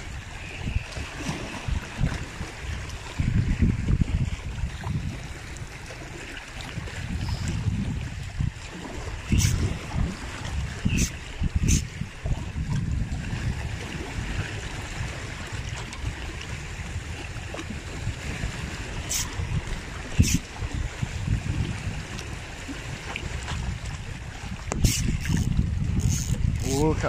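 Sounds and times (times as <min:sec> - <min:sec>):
waves lapping over boulders: 0:00.0 - 0:27.0
wind rumbling on microphone: 0:00.0 - 0:27.0.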